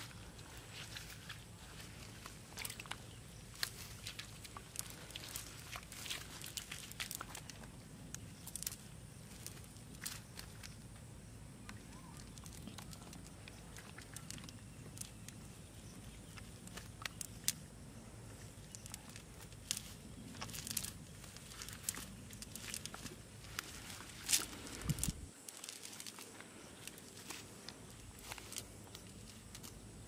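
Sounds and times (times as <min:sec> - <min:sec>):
net and dry grass rustling: 0:00.0 - 0:10.9, 0:11.7 - 0:30.0
faint low rumble: 0:00.0 - 0:25.3.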